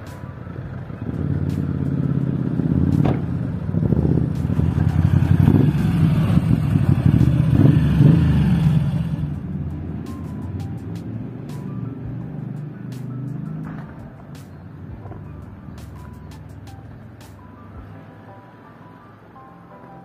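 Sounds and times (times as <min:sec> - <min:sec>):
vehicle engine passing by: 0:00.0 - 0:18.2.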